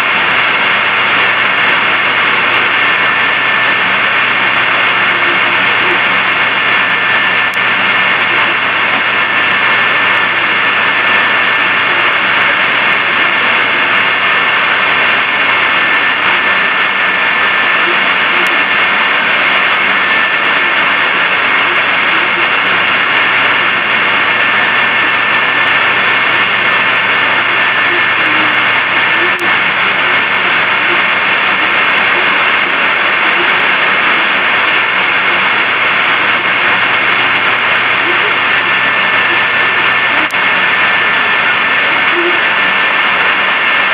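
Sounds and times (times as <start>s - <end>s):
filtered steady hiss: 0.0s - 43.9s.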